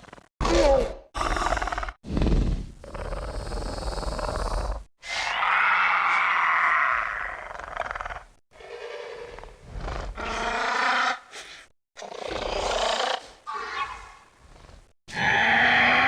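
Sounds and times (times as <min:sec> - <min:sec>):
creature roars and growls: 0:00.4 - 0:02.0, 0:02.8 - 0:11.3, 0:12.0 - 0:14.3, 0:15.1 - 0:16.0.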